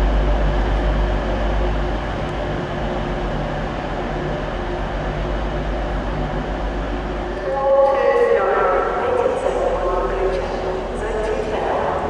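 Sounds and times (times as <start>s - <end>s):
diesel train engine droning: 0.0s - 12.0s.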